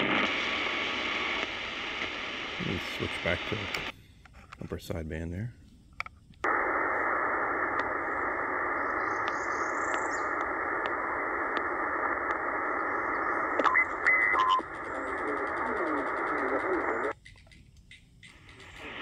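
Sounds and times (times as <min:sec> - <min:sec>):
shortwave radio static hiss: 0:00.0 - 0:17.2, 0:18.2 - 0:19.0.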